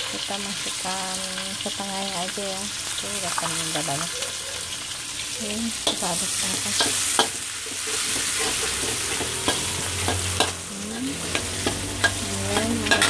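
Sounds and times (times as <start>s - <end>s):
meatballs sizzling in hot oil: 0.0s - 13.0s.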